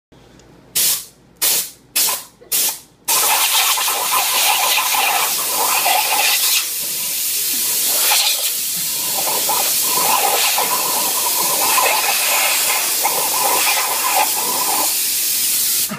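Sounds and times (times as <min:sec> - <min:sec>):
compressed air hissing: 0:00.8 - 0:15.9.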